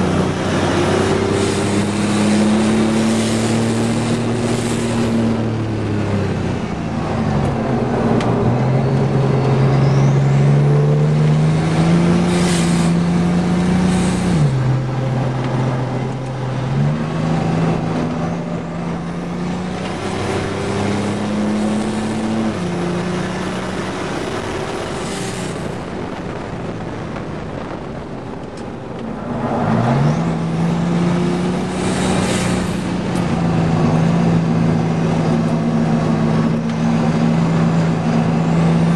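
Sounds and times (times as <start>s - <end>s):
engine running hard with gear changes: 0.0s - 38.9s.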